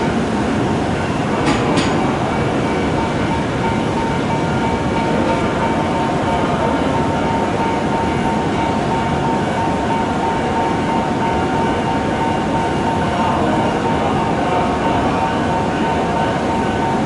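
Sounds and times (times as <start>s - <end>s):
electric train high whine: 0.0s - 17.0s.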